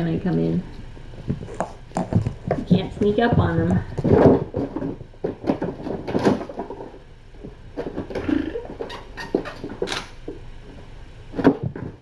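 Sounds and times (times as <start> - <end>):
kittens tapping and rustling: 0.0 - 12.0.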